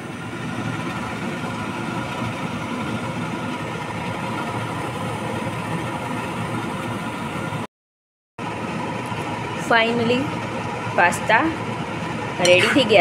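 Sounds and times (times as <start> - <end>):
range hood fan humming: 0.0 - 7.7, 8.4 - 13.0.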